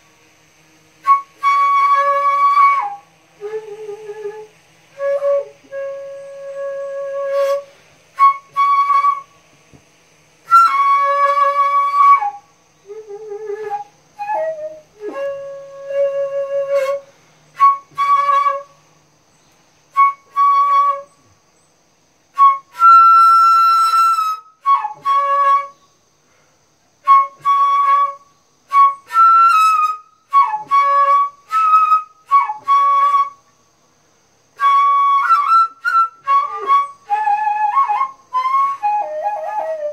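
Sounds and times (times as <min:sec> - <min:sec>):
bamboo flute melody: 0:00.9 - 0:09.6, 0:10.4 - 0:18.9, 0:19.9 - 0:21.4, 0:22.3 - 0:25.9, 0:27.0 - 0:33.6, 0:34.6 - 0:39.9.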